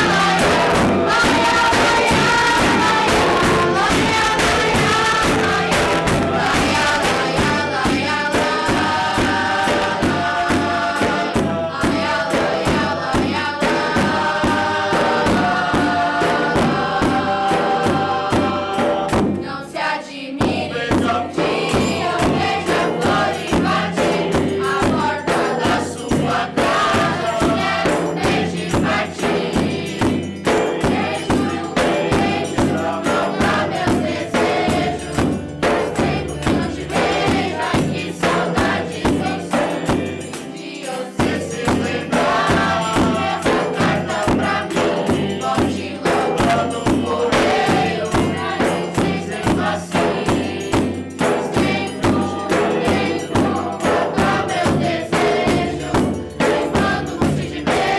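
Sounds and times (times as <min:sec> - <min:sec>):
group singing together: 0:00.0 - 0:57.9
hand percussion beat: 0:00.0 - 0:57.9.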